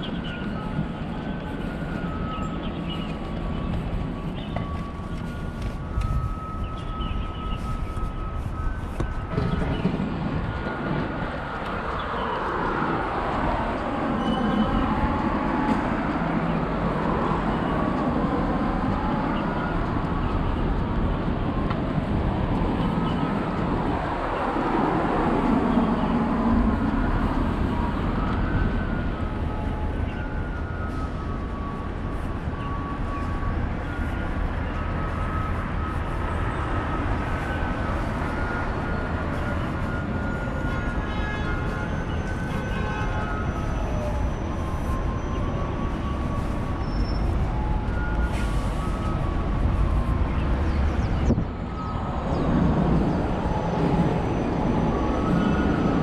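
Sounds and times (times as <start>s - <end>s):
rumble of passing vehicles: 0.0s - 56.0s.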